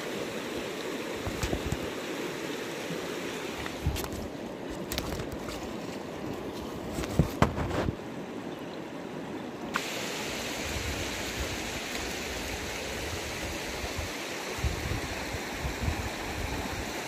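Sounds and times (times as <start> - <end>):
river running over stones: 0.0 - 17.0.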